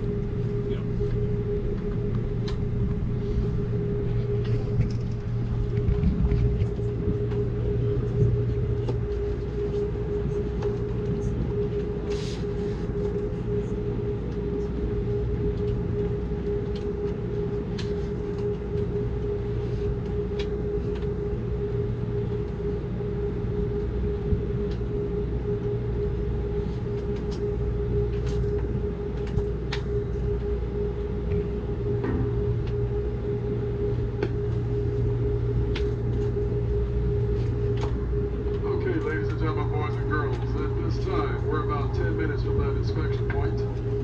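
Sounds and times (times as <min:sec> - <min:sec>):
constant hum: 0:00.0 - 0:44.0.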